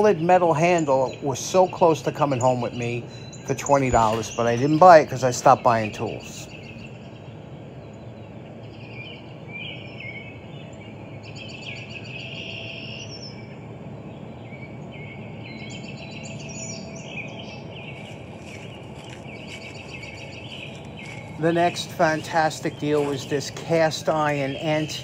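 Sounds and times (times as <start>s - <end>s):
low outdoor background noise: 0.0s - 25.0s
songbirds singing: 0.0s - 25.0s.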